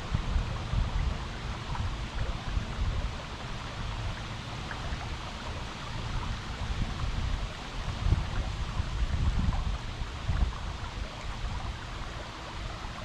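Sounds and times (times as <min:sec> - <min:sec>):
river water running over rocks: 0:00.0 - 0:13.0.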